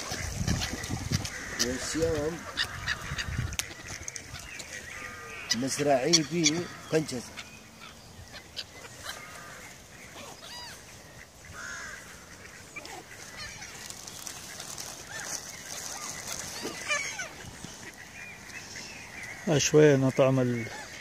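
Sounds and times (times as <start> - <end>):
ducks quacking: 0.0 - 21.0
gulls squawking: 0.0 - 21.0.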